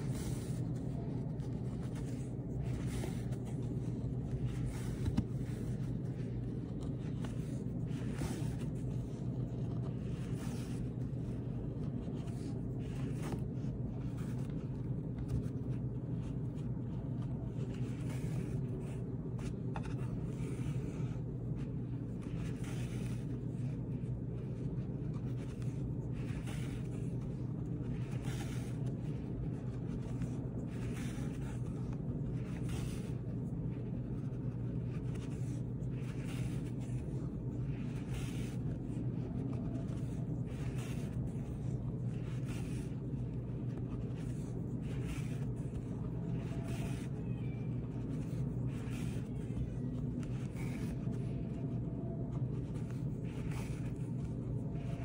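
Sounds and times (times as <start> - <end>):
needle and yarn scratching: 0.0 - 55.0
steady low hum: 0.0 - 55.0.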